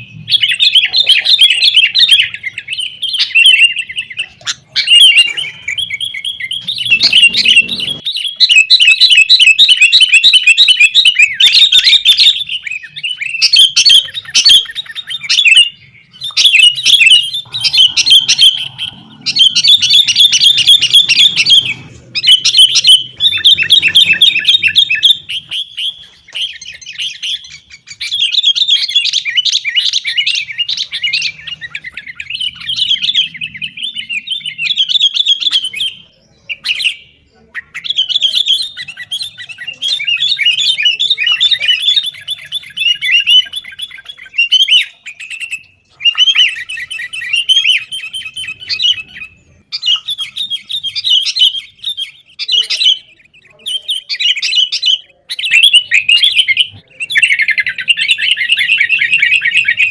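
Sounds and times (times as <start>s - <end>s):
bulbuls chirping rapidly: 0.0s - 59.9s.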